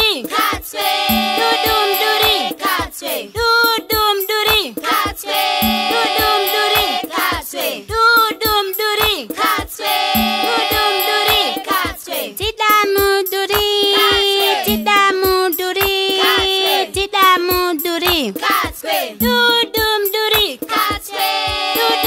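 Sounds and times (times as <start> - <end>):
low thumping beat: 0.0 - 21.9
group singing nursery rhyme: 0.0 - 22.0.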